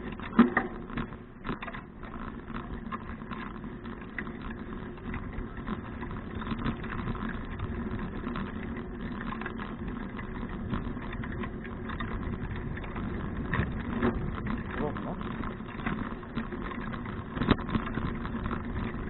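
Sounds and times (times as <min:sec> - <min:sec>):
bicycle tyre and frame noise: 0:00.0 - 0:19.0
small bicycle rattles: 0:00.0 - 0:19.0
wind rumbling on microphone: 0:00.0 - 0:19.0.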